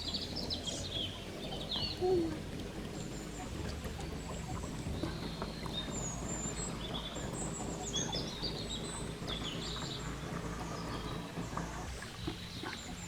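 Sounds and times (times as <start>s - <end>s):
birds chirping: 0.0s - 13.0s
low background rumble: 0.0s - 13.0s.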